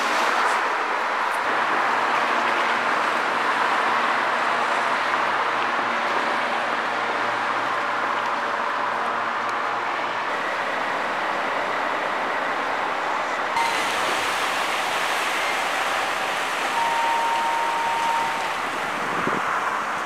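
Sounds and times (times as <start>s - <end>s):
traffic on a wet street: 0.0s - 20.0s
water on a shore: 0.0s - 20.0s
wind: 0.0s - 20.0s.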